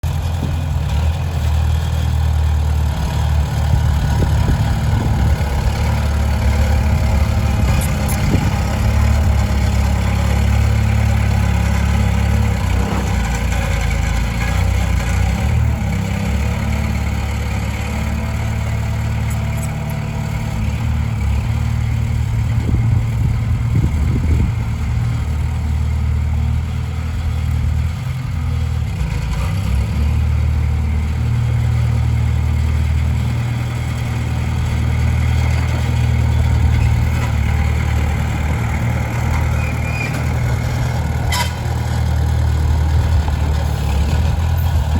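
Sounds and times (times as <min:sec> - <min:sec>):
bulldozer diesel engine rumbling: 0:00.0 - 0:44.9.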